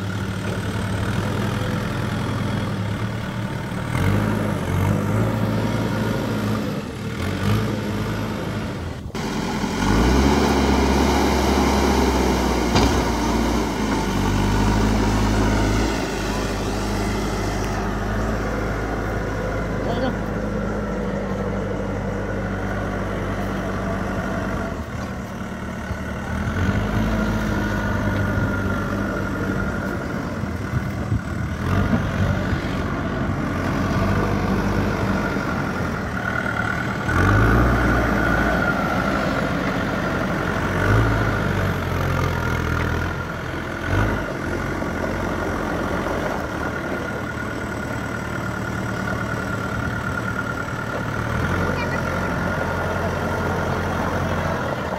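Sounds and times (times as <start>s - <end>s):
diesel engine under load: 0.0s - 54.9s.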